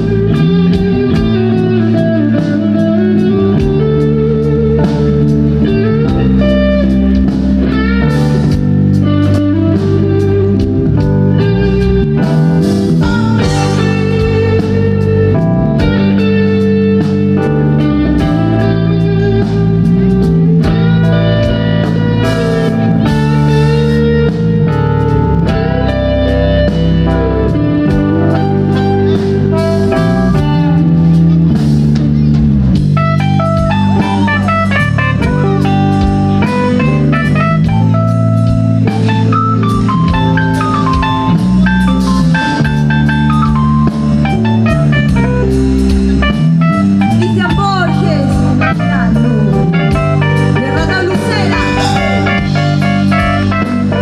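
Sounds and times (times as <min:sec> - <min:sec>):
electric guitar bending lead notes: 0:00.0 - 0:54.0
live blues band playing: 0:00.0 - 0:54.0.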